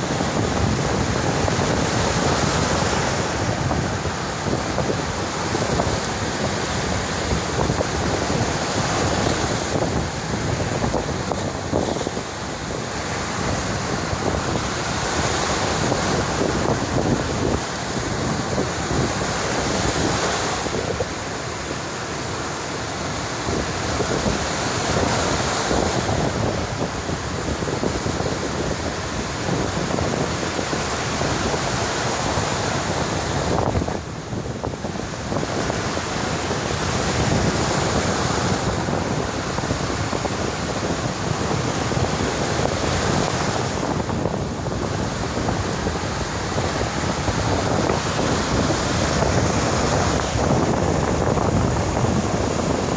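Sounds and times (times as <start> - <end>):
sea waves breaking on shore: 0.0 - 52.9
wind buffeting microphone: 0.0 - 52.9.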